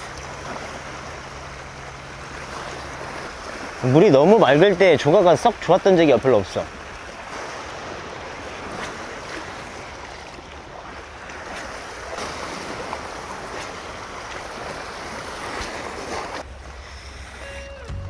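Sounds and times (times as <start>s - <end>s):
sea waves washing against rocks: 0.0s - 17.9s.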